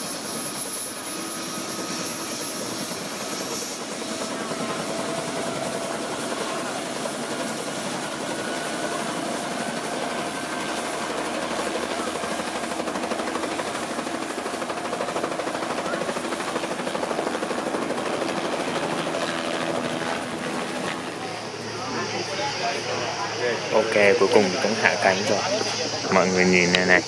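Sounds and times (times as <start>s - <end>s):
helicopter rotor and engine: 0.0s - 27.0s
thin steady whine: 0.0s - 27.0s.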